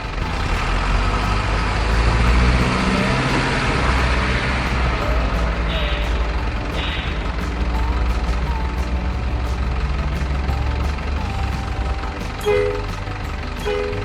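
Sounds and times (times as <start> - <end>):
diesel truck engine sound: 0.0 - 14.0.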